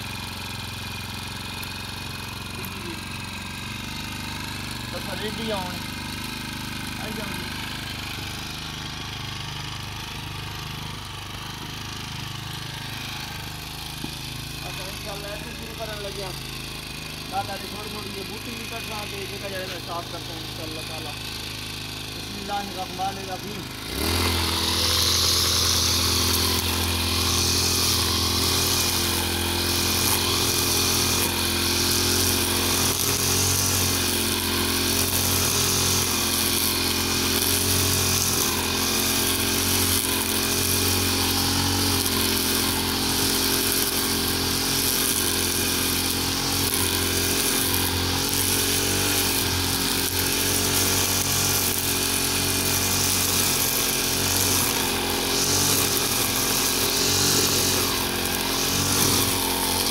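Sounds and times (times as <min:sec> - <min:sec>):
brush cutter trimming grass: 0:00.0 - 0:59.9.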